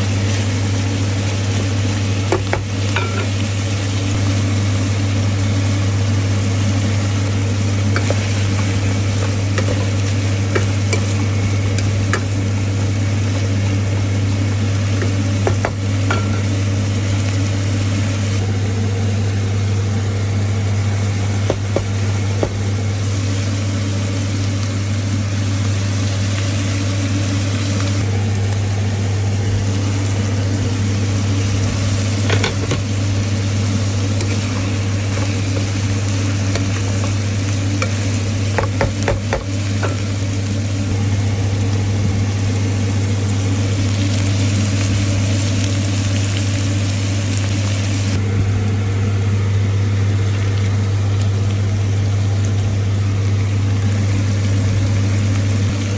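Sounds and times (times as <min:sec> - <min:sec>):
food sizzling in a hot pan: 0:00.0 - 0:55.9
low hum: 0:00.1 - 0:55.9.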